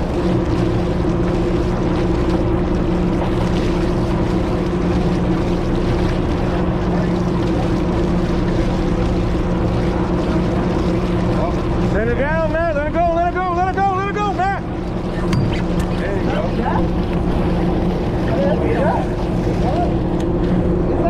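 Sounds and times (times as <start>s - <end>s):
boat engine humming: 0.0s - 21.0s
water noise: 0.0s - 21.0s
wind: 0.0s - 21.0s.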